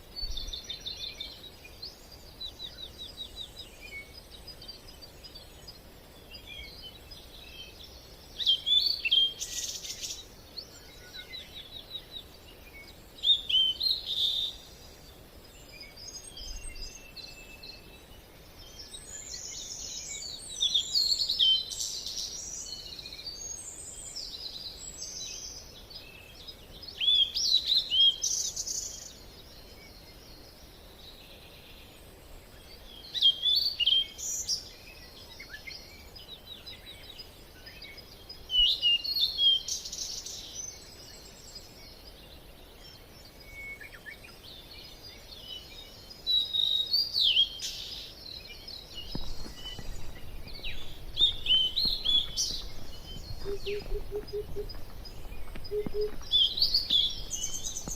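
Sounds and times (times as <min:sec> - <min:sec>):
birds singing: 0:00.0 - 0:57.9.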